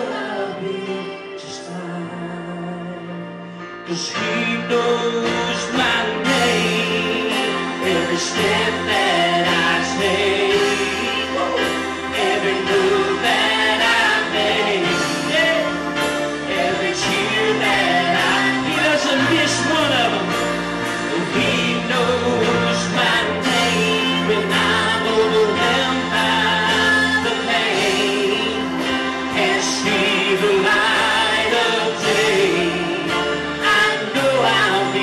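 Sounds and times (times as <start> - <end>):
band accompaniment: 0.0 - 35.0
choir singing gospel song: 0.0 - 35.0.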